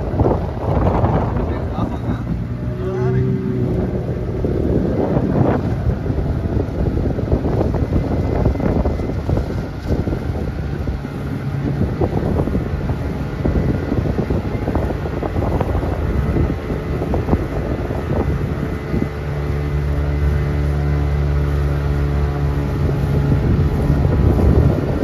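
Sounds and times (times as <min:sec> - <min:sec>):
motor droning: 0:00.0 - 0:25.0
wind buffeting microphone: 0:00.0 - 0:25.0.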